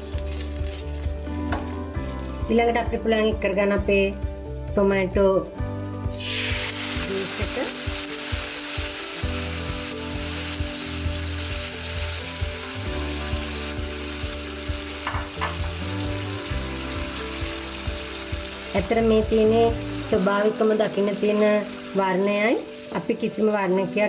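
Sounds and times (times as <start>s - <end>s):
tomato puree sizzling in oil: 0.0s - 4.7s, 5.8s - 23.9s.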